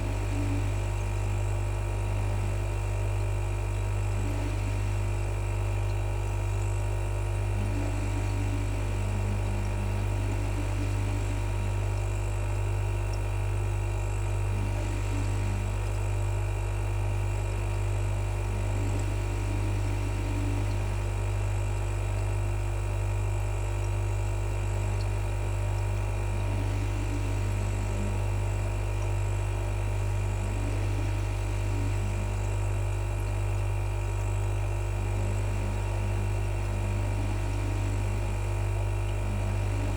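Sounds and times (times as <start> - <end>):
refrigerator compressor buzzing: 0.0 - 39.9.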